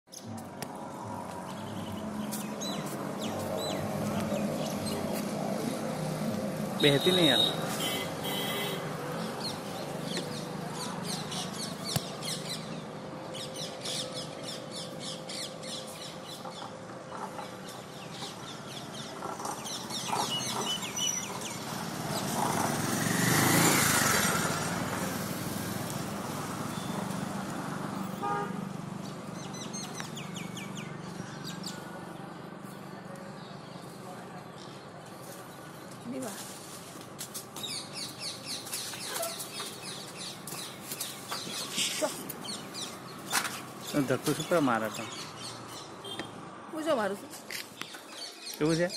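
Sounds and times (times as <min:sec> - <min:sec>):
birds chirping: 0:00.1 - 0:36.4, 0:37.4 - 0:48.9
road vehicle passing: 0:00.2 - 0:48.3.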